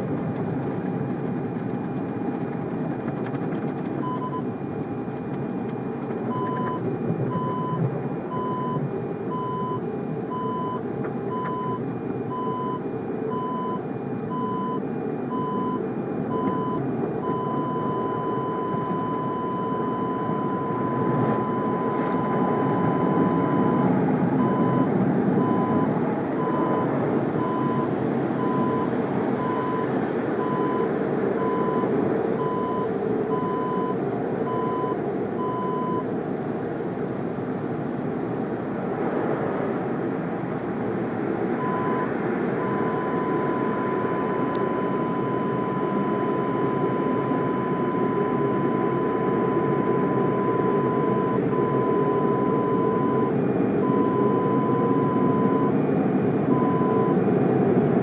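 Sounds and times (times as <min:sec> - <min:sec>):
parking sensor beeping: 0:00.2 - 0:38.7, 0:40.2 - 0:57.2.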